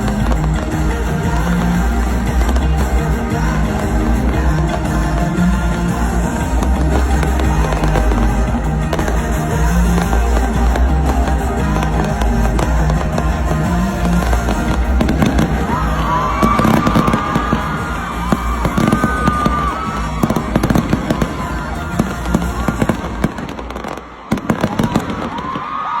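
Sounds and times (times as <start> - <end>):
loud music: 0.0 - 25.9
fireworks bangs and crackles: 0.0 - 26.0.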